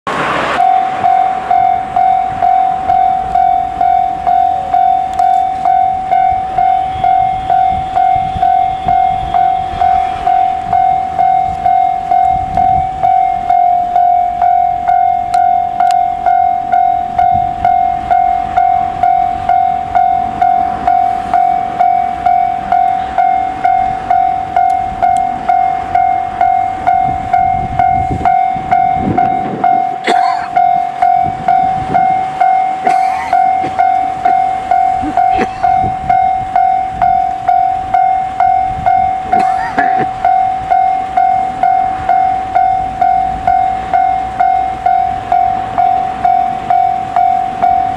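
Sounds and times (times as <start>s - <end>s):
level crossing bell dinging: 0.6s - 47.9s.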